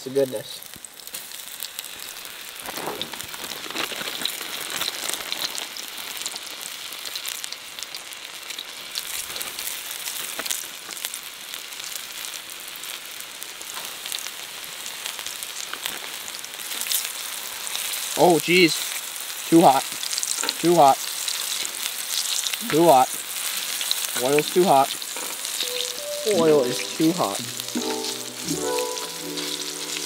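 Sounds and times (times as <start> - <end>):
fish deep-frying in oil: 0.0 - 30.0.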